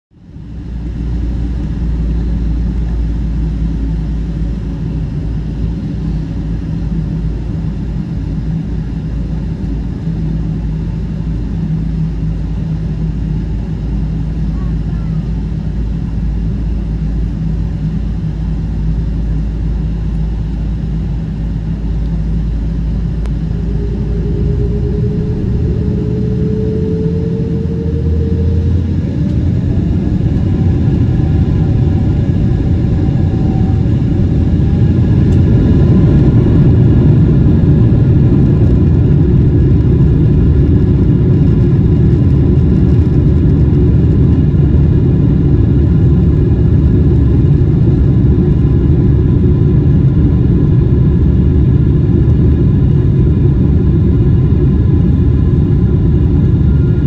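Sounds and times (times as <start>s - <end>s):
jet engines spooling up: 0.2s - 57.0s.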